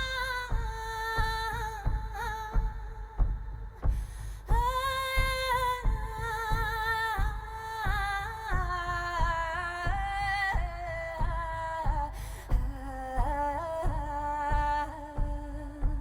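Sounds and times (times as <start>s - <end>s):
woman singing wordless notes: 0.0s - 3.6s, 4.4s - 16.0s
frame drum slow beat: 0.0s - 16.0s.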